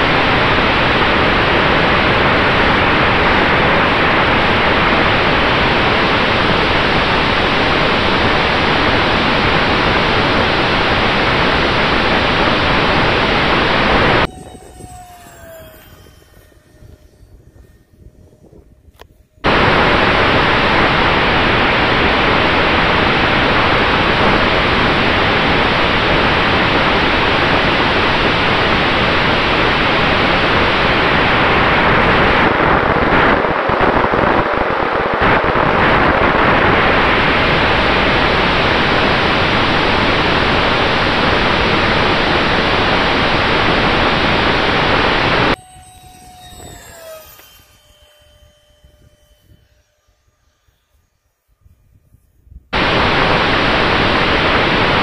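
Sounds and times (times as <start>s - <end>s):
jet fan whine passing: 0.0s - 55.0s
rush of wind and fan noise: 0.0s - 55.0s.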